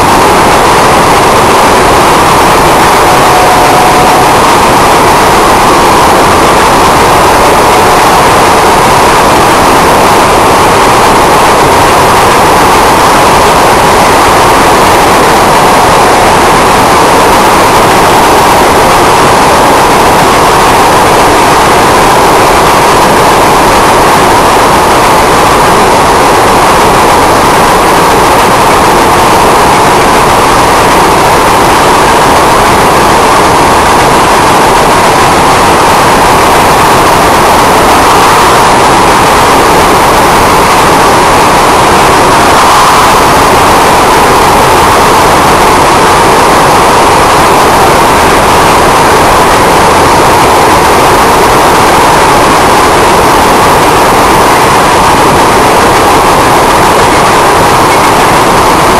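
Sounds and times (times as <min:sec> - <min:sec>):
freight train roaring: 0:00.0 - 0:58.9.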